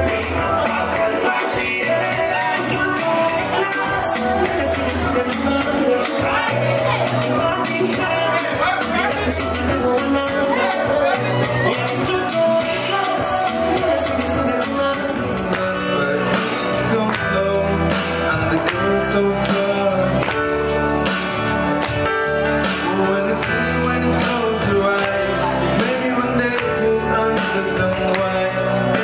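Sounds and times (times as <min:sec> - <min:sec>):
song with singing and guitar: 0:00.0 - 0:29.0.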